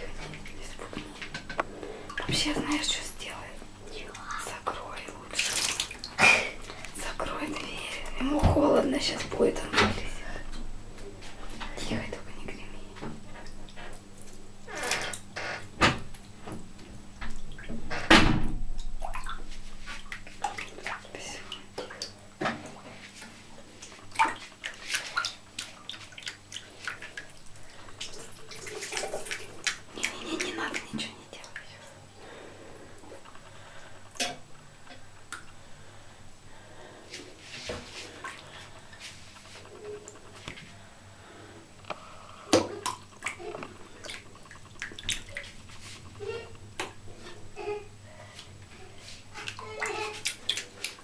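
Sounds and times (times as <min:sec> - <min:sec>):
water dripping: 0:00.0 - 0:35.9, 0:41.8 - 0:51.0
water splashing in a bathtub: 0:00.0 - 0:51.0.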